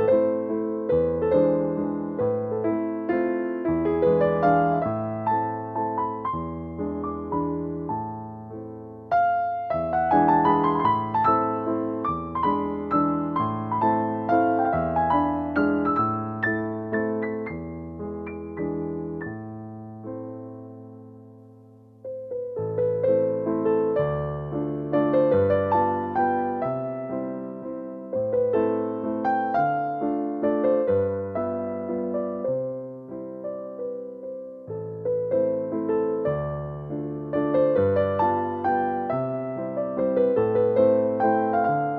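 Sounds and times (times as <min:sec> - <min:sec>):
gentle piano music: 0:00.0 - 0:41.9.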